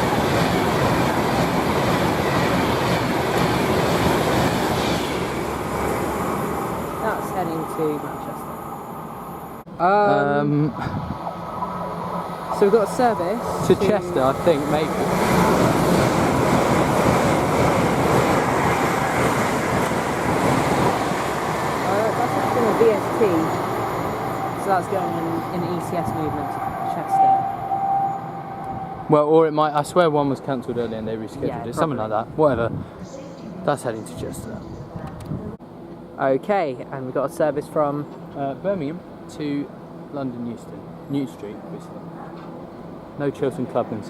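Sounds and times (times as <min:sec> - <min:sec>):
electric train passing: 0:00.0 - 0:35.0, 0:35.6 - 0:44.0.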